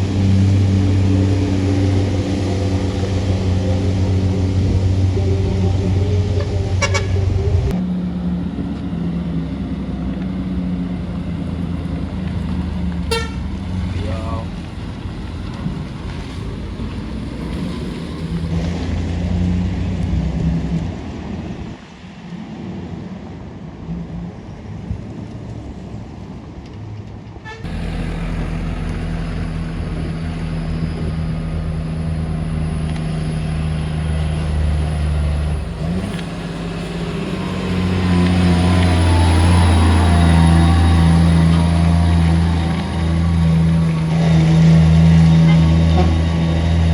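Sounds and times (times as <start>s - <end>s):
truck engine running steadily: 0.0s - 19.1s, 27.5s - 46.9s
truck diesel engines under load: 0.0s - 46.9s.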